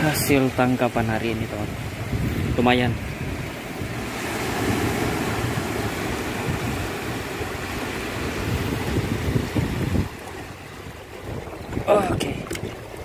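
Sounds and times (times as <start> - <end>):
surf washing against rocks: 0.0 - 13.0
wind rumble on microphone: 0.0 - 13.0.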